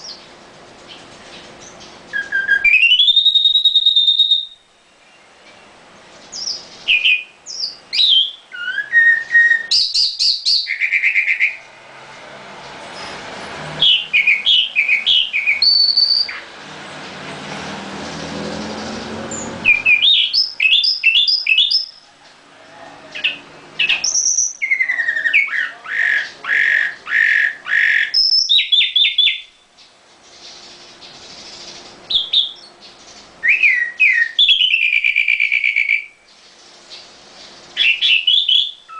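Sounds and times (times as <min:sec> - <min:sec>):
nightingale singing: 0:00.0 - 0:11.7, 0:13.8 - 0:16.6, 0:18.1 - 0:38.9.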